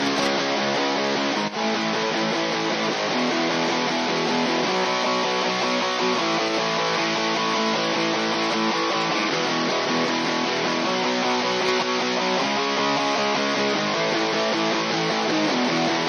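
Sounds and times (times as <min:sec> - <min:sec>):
electric rhythm guitars playing: 0:00.0 - 0:16.0.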